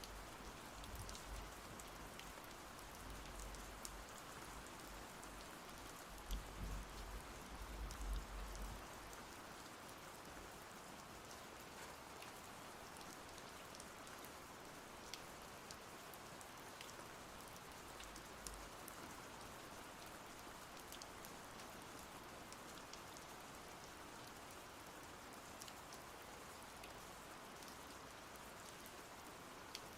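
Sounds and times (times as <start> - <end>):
faint rain falling: 0.0 - 29.9.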